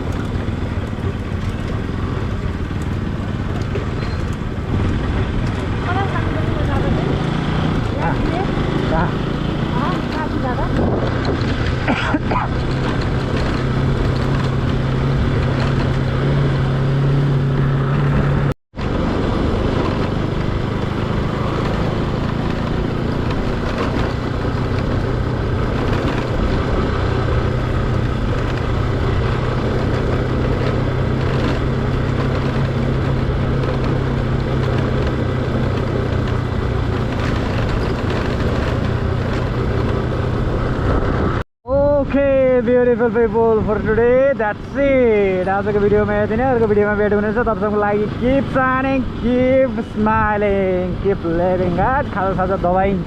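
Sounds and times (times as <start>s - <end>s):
motorcycle engine running: 0.0s - 53.0s
road and air noise: 0.0s - 53.0s.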